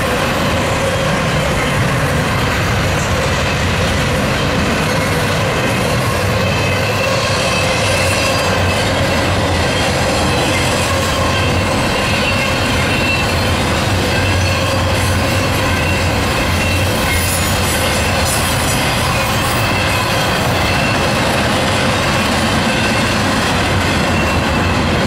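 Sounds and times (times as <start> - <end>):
freight train wheels rumbling: 0.0 - 25.0
wheel squeal: 4.8 - 25.0.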